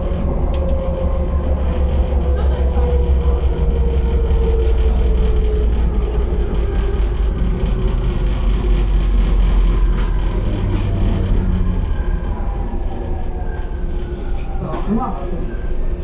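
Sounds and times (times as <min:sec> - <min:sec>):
traction motor whine: 0:00.0 - 0:16.0
train wheels rumbling on rail: 0:00.0 - 0:16.0.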